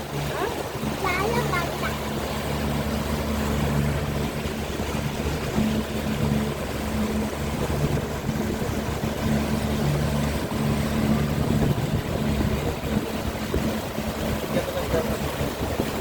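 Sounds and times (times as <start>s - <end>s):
motorboat engine humming: 0.0s - 16.0s
rushing water: 0.0s - 16.0s
wind: 0.0s - 16.0s.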